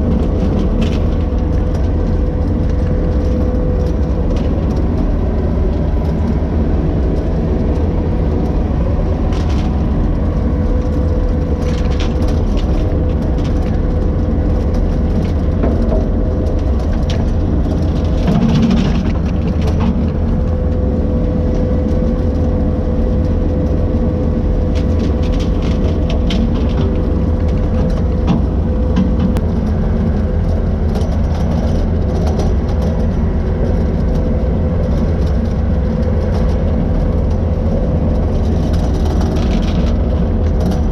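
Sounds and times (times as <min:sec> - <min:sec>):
constant whine: 0:00.0 - 0:40.9
skid steer engine running: 0:00.0 - 0:40.9.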